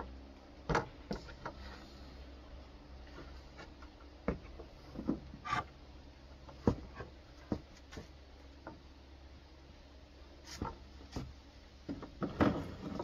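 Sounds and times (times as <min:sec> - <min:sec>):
person climbing wooden frame: 0:00.0 - 0:02.1, 0:03.0 - 0:08.9, 0:10.4 - 0:13.0.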